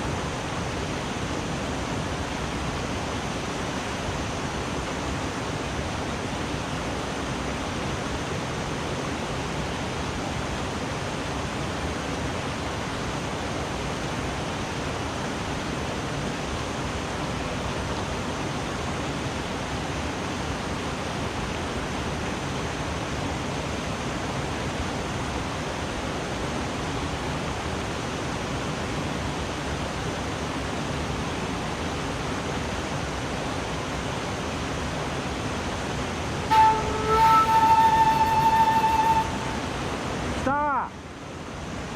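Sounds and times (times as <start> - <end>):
mountain stream rushing: 0.0 - 41.9.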